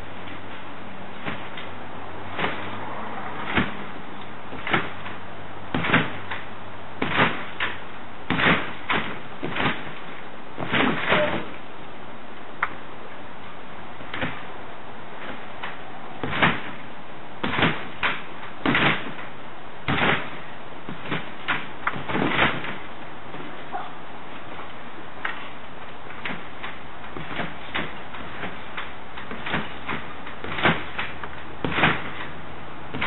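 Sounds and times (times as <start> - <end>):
trampoline mat and springs thumping: 0.0 - 11.8, 12.5 - 33.0.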